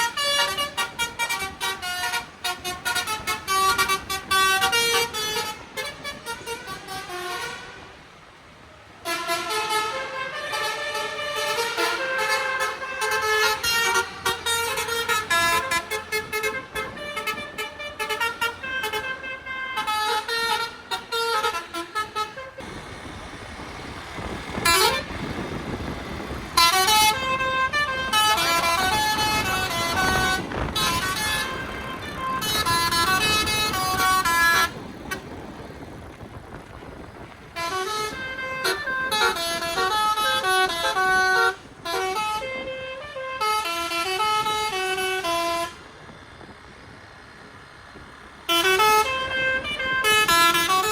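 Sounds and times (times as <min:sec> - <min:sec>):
multi-tone bus horn melodies: 0:00.0 - 0:08.2, 0:08.9 - 0:23.0, 0:24.2 - 0:36.3, 0:36.9 - 0:46.5, 0:48.4 - 0:50.9
engine and road noise: 0:00.0 - 0:50.9.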